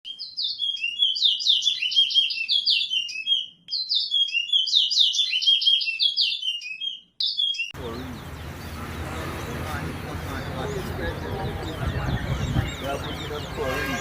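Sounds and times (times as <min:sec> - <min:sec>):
finch warbling song: 0:00.1 - 0:14.0.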